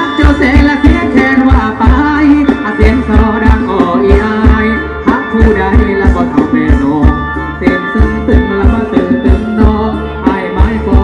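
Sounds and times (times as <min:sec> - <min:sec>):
live band dance music: 0:00.0 - 0:11.0
steady drum beat: 0:00.0 - 0:11.0.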